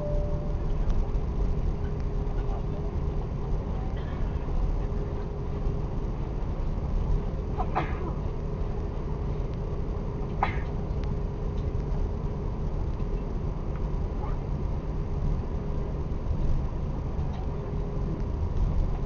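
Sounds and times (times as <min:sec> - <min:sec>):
aircraft cabin low rumble: 0:00.0 - 0:19.0
faint steady hum: 0:00.0 - 0:19.0.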